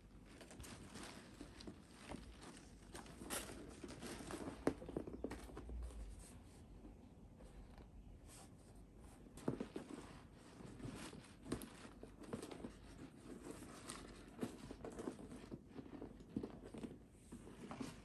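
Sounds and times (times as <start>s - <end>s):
leather bag rustling and creasing: 0.0s - 6.1s, 9.4s - 18.0s.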